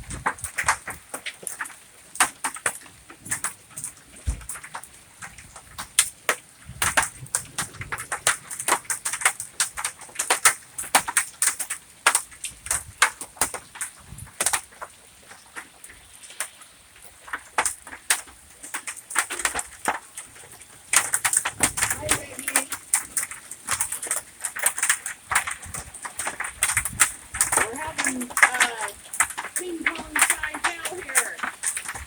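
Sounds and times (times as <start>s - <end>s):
hailstones striking hard surfaces: 0.0s - 32.0s.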